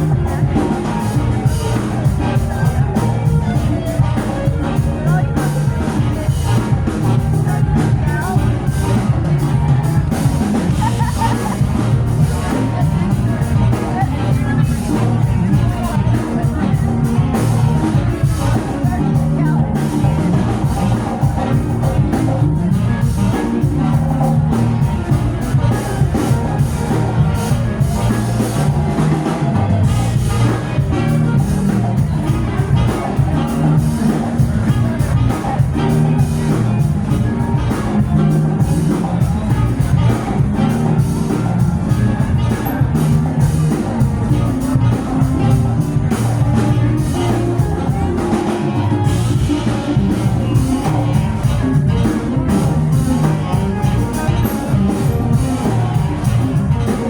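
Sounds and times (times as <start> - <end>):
bass guitar: 0.0 - 57.0
drum kit beat: 0.0 - 57.0
rock band playing live: 0.0 - 57.0.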